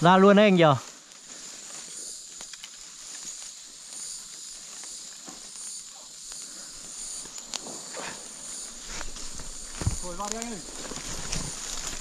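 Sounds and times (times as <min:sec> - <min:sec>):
high-pitched insect drone: 0:00.0 - 0:12.0
faint rustles and clicks: 0:00.9 - 0:12.0.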